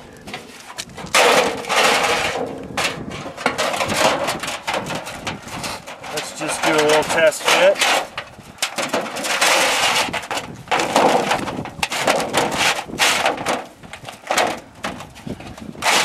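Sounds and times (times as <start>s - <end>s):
metal scraping on shingles: 0.0s - 16.0s.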